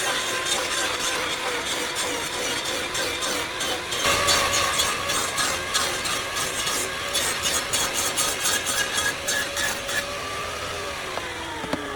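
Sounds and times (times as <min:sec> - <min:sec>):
saw rasping through wood: 0:00.0 - 0:11.9.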